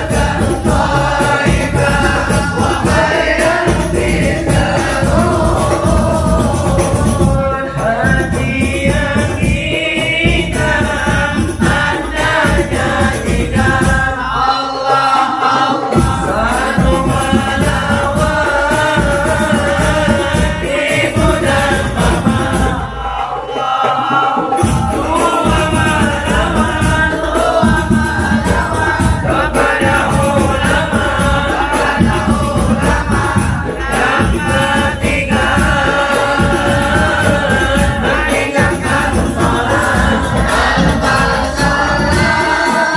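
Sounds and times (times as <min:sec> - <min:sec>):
frame drums with jingles: 0:00.0 - 0:42.9
group of voices chanting: 0:00.0 - 0:42.9.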